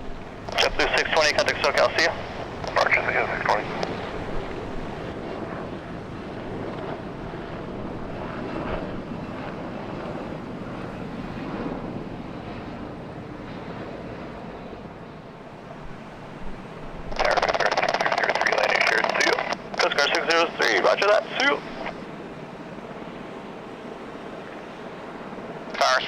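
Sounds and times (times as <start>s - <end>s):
distant jet engine rumble: 0.0s - 26.0s.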